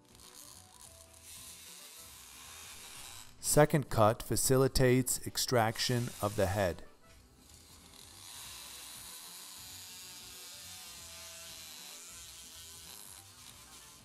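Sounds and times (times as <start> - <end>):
background music: 0.0 - 14.0
bone saw buzzing: 0.0 - 14.0.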